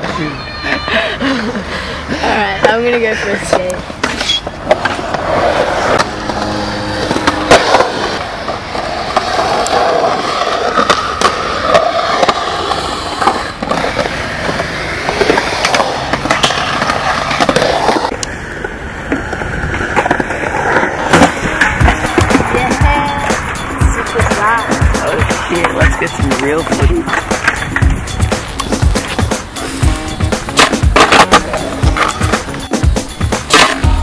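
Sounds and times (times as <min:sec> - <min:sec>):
skateboard wheels rolling on concrete: 0:00.0 - 0:34.0.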